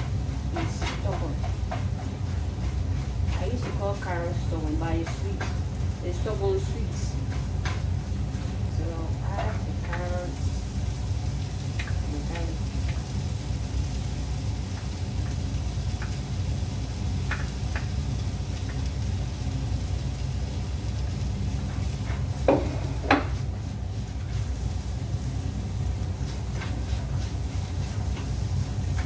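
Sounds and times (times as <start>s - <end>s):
food frying in a pan: 0.0s - 29.0s.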